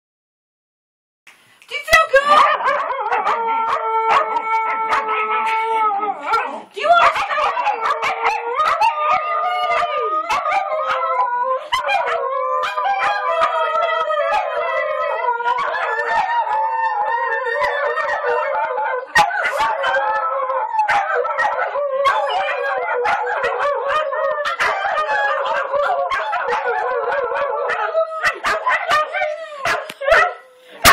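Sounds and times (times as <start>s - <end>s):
dogs howling: 2.1s - 30.9s.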